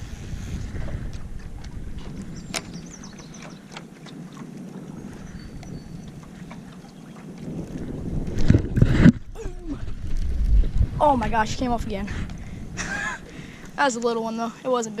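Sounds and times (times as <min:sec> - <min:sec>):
wind noise on microphone: 0:00.0 - 0:14.1.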